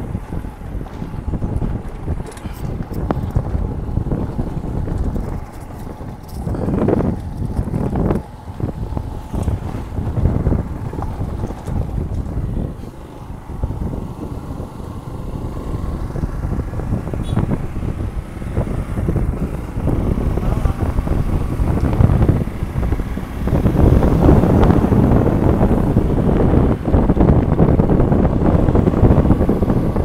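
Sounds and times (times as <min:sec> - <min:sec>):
motorcycle running: 0:00.0 - 0:30.0
wind rushing over microphone: 0:00.0 - 0:30.0.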